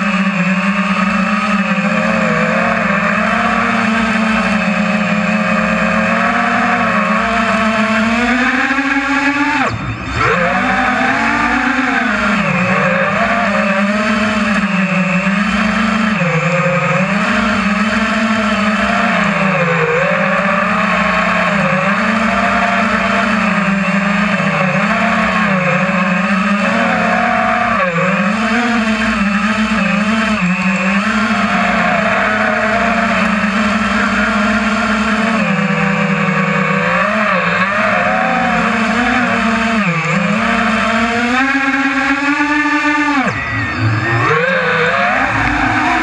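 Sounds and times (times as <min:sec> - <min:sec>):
drone propellers whining: 0:00.0 - 0:46.0.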